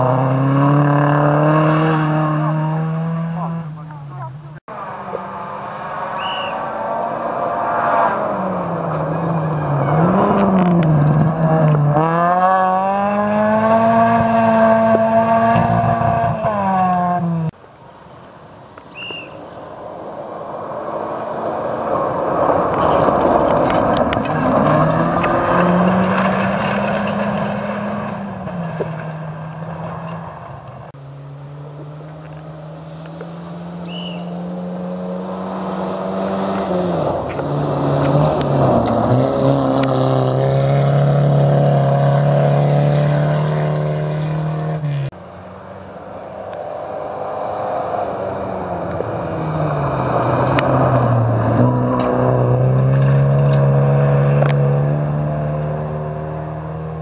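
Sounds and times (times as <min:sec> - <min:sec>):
rally car engines revving: 0:00.0 - 0:17.6, 0:19.5 - 0:57.0.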